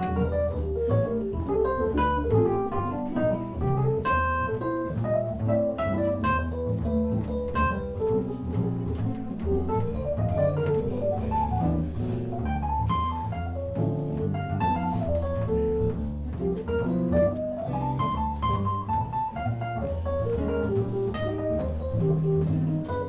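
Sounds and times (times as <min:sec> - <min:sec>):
double bass plucked: 0:00.0 - 0:23.0
quick melody line: 0:00.0 - 0:23.0.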